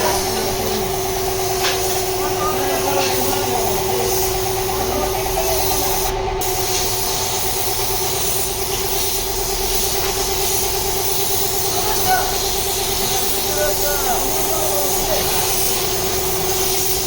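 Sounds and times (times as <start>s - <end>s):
air spray hissing: 0.0s - 17.0s
machine hum: 0.0s - 17.0s.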